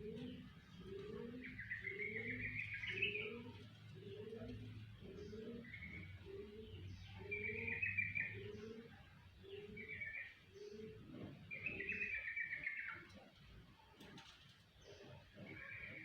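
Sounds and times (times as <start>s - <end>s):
dove cooing: 0.0s - 13.4s.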